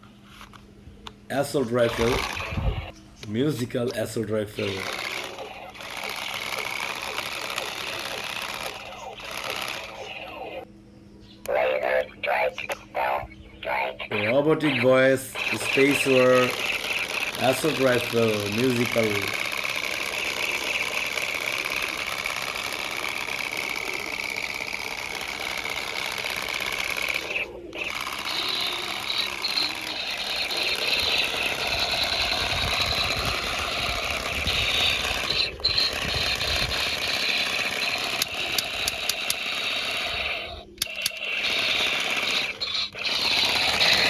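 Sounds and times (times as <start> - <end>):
toy gun electronic buzzing: 1.3 - 10.7, 11.4 - 44.0.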